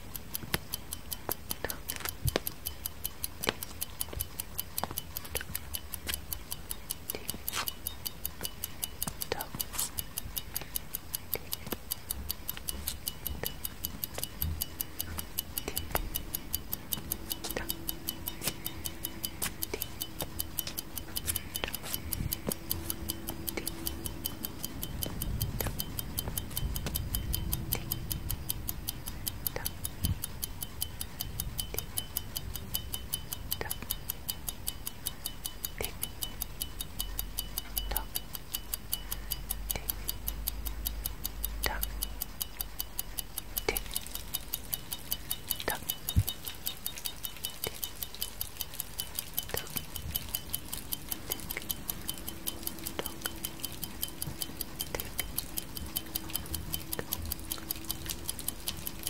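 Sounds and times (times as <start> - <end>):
clock ticking: 0.0 - 59.0
loud clock click: 0.0 - 59.0.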